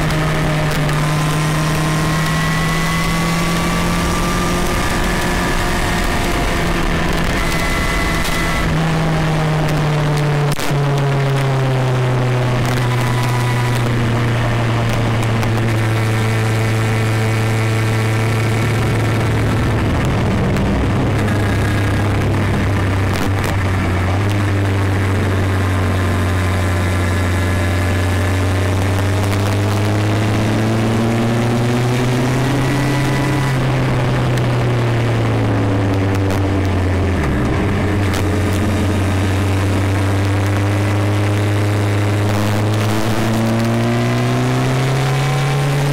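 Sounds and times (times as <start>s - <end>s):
motorcycle engine under load: 0.0s - 45.9s
wind and road noise: 0.0s - 45.9s.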